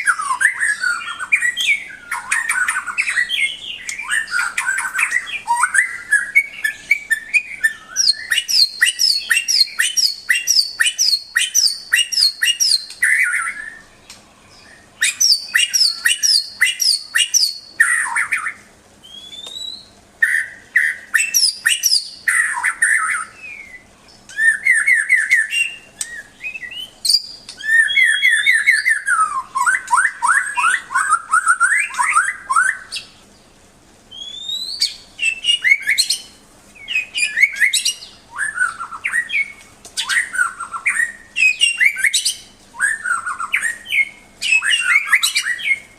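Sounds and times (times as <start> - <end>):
bird singing trills and whistles: 0.0 - 33.5, 34.1 - 45.9.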